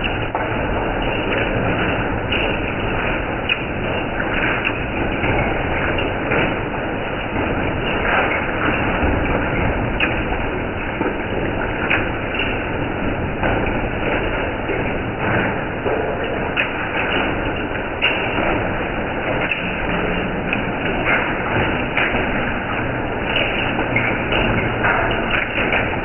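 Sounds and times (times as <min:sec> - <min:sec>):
hail and heavy rain pounding: 0:00.0 - 0:26.0.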